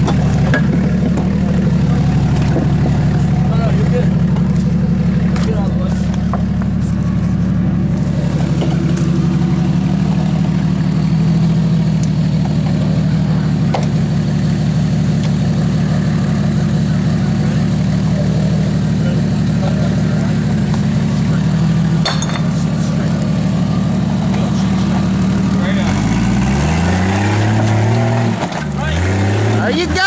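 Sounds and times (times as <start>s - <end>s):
engine running at low revs: 0.0s - 30.0s.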